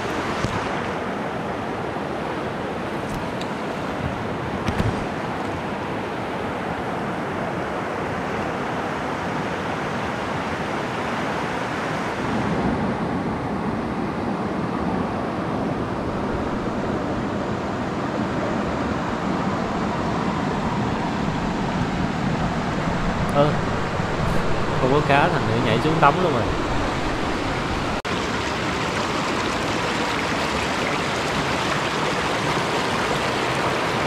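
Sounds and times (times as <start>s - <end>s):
mountain stream flowing: 0.0s - 34.0s.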